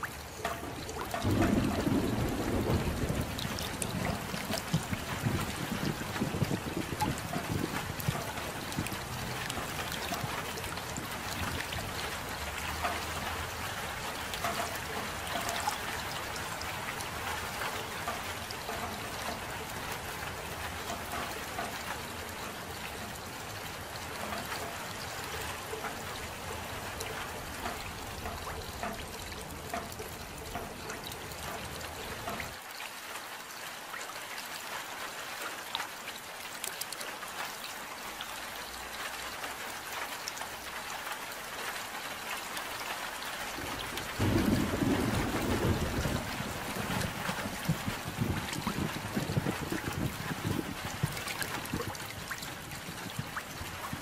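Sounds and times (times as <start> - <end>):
rain patter: 0.0 - 54.0
trickling water: 0.0 - 54.0.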